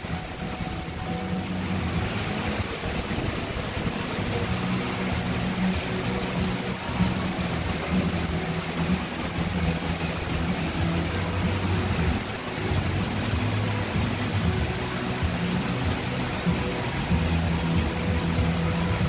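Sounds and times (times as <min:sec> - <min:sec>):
heavy rain pouring onto water: 0:00.0 - 0:19.0.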